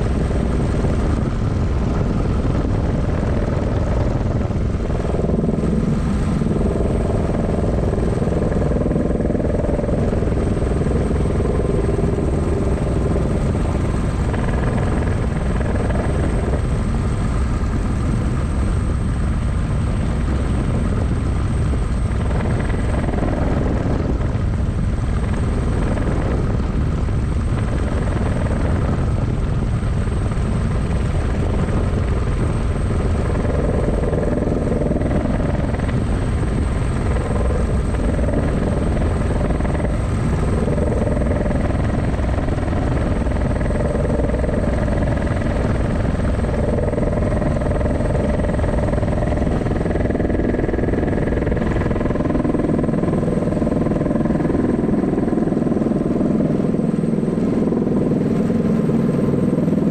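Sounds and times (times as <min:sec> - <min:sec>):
helicopter rotor rumble: 0:00.0 - 0:59.9.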